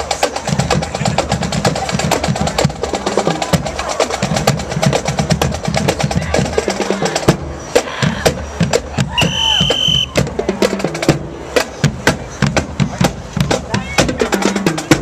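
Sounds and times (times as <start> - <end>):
deeper drums: 0.0 - 15.0
snare drum strokes and rolls: 0.0 - 15.0.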